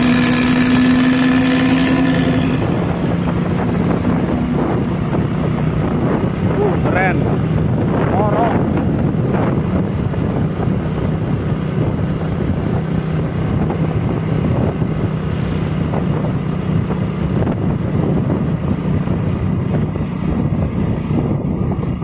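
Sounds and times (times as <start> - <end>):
diesel bus engine droning: 0.0 - 22.0.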